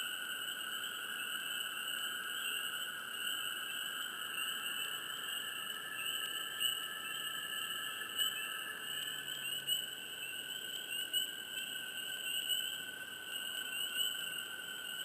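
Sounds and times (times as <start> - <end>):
frogs chirping in chorus: 0.0 - 15.0.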